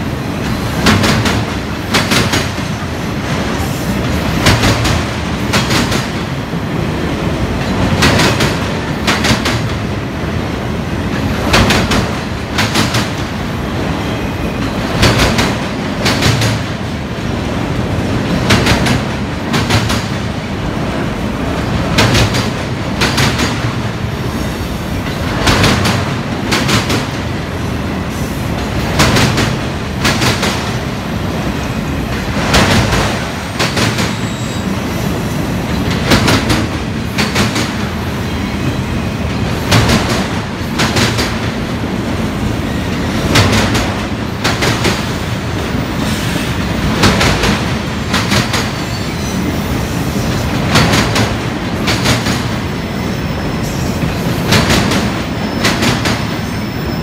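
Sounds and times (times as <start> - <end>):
clickety-clack of wheels on rail joints: 0.0 - 57.0
freight train rumbling: 0.0 - 57.0.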